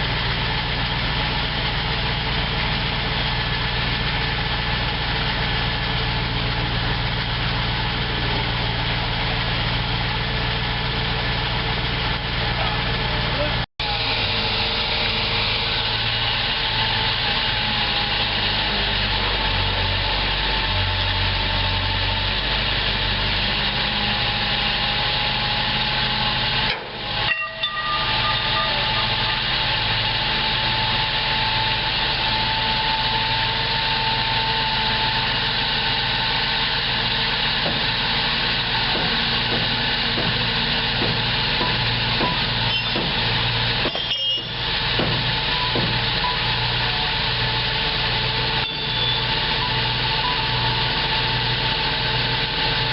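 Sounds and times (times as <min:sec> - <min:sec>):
dump truck engine running: 0:00.0 - 0:52.9.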